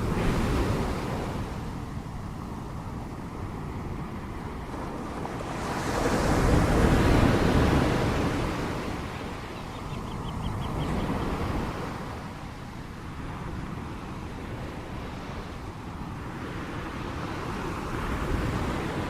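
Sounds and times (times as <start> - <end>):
ocean waves crashing: 0.0 - 19.0
steady surf roar: 0.0 - 19.0.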